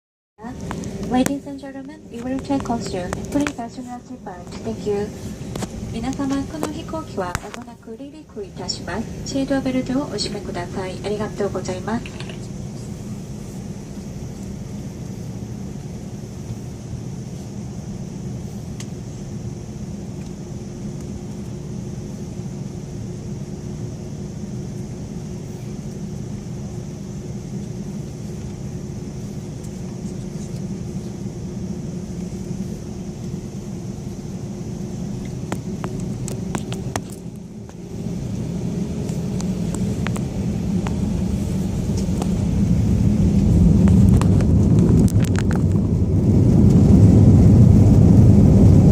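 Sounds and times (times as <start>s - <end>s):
airliner engine hum and rumble: 0.4s - 48.9s.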